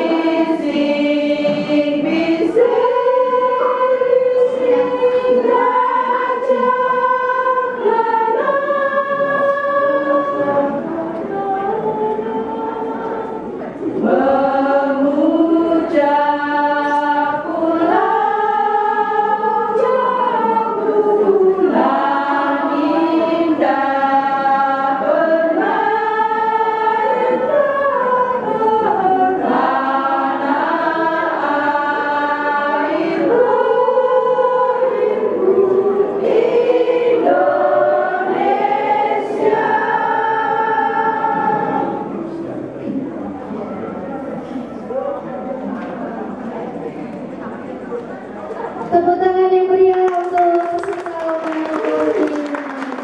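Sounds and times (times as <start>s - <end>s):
women's choir singing unaccompanied: 0.0s - 53.0s.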